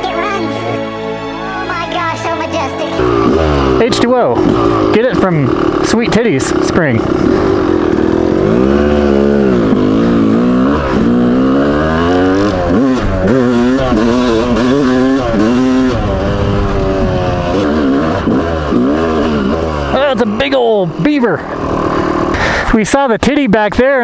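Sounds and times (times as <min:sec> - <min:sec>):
dirt bike engine revving: 0:02.9 - 0:22.8.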